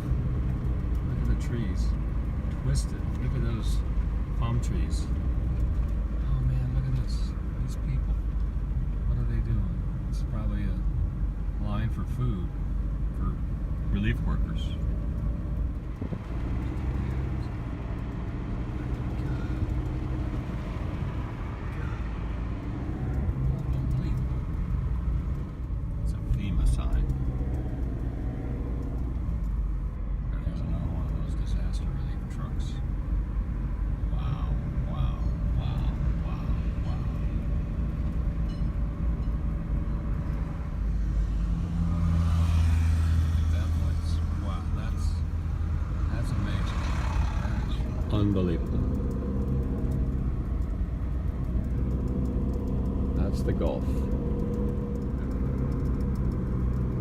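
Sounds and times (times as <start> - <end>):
car driving: 0.0 - 57.0.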